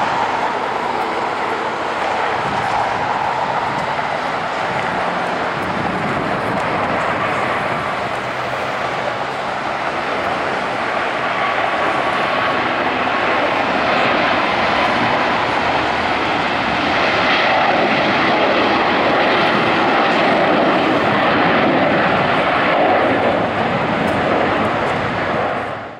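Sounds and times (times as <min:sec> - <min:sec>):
jet engines at takeoff: 0:00.0 - 0:25.9.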